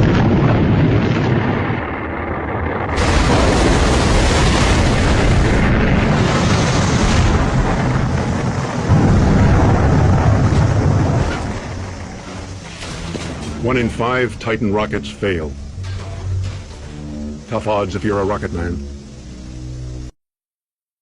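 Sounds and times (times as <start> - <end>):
explosion: 0.0 - 19.2
rocket engine roar: 0.0 - 20.1.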